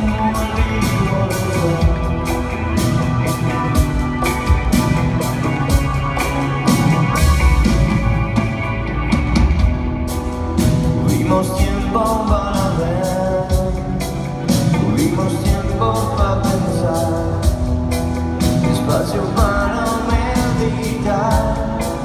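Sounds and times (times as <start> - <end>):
drum kit beat: 0.0 - 22.0
electric guitar: 0.0 - 22.0
keyboards: 0.0 - 22.0.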